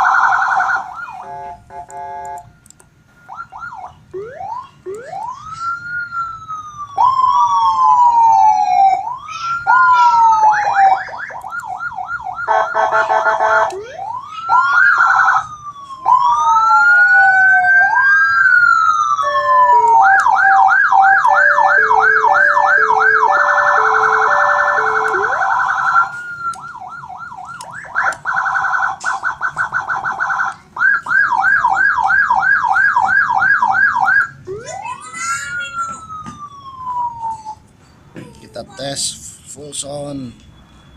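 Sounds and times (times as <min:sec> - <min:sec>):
electronic emergency siren: 0:00.0 - 0:37.6.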